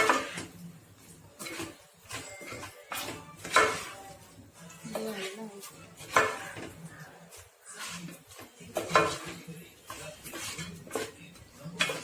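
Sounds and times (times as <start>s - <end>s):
spoon scraping a cooking pan: 0.0s - 12.0s.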